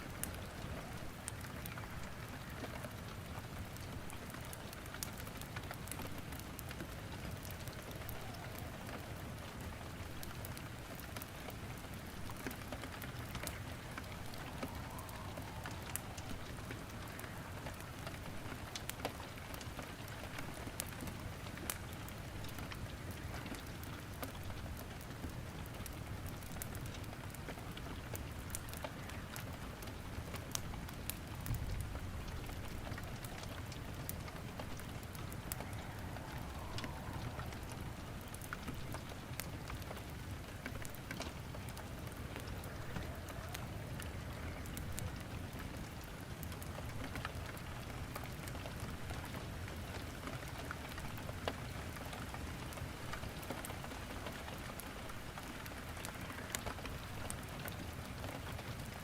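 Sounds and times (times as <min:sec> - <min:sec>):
steady rain falling: 0:00.0 - 0:59.0
wood fire crackling: 0:00.0 - 0:59.0.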